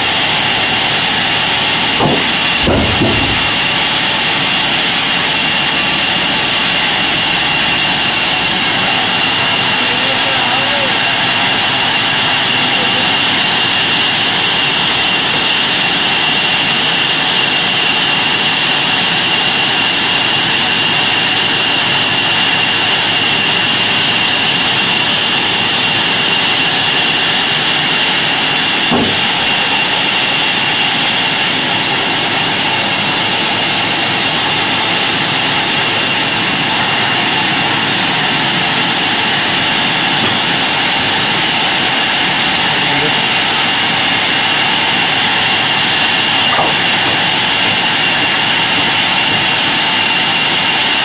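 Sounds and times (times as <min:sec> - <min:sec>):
band saw running: 0:00.0 - 0:51.0.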